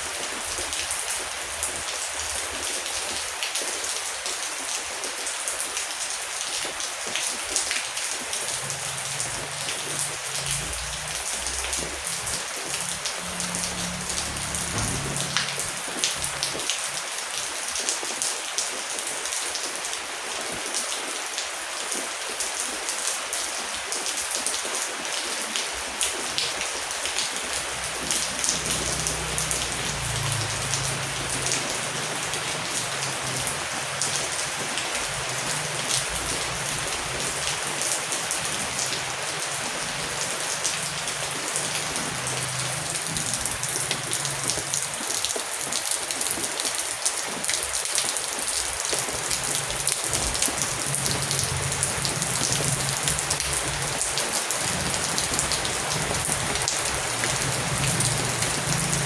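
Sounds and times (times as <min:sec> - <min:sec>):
heavy rain on hard surface: 0:00.0 - 0:59.0.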